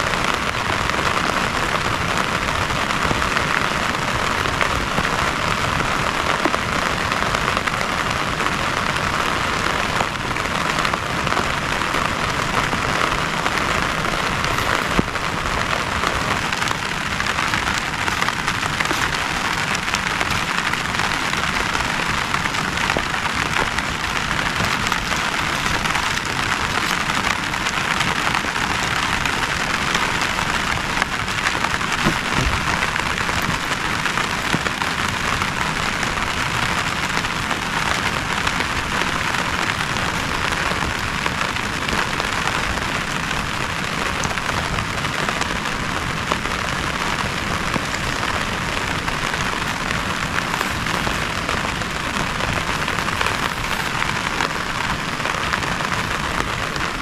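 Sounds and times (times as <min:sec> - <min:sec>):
heavy rain falling: 0:00.0 - 0:57.0
raindrops ticking: 0:00.0 - 0:57.0.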